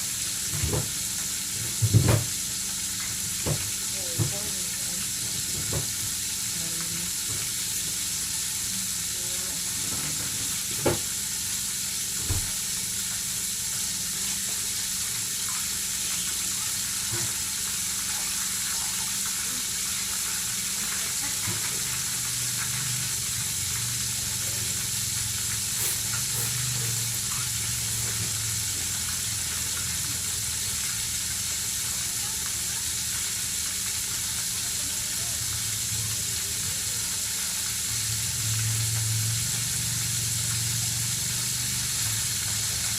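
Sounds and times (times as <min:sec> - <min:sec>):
chicken sizzling in hot oil: 0:00.0 - 0:42.9.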